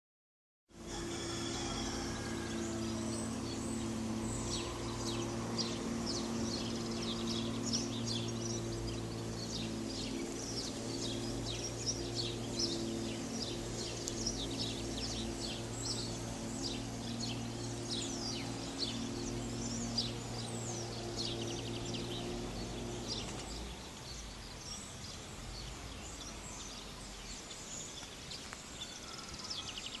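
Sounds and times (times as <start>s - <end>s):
steady low hum: 0.7s - 30.0s
birds chirping: 0.8s - 30.0s.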